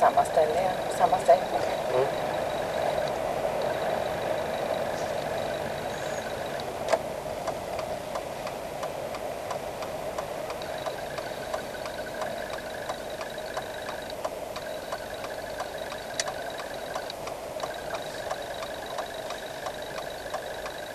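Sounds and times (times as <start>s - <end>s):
car engine running: 0.0s - 20.9s
turn signal relay ticking: 0.0s - 20.9s.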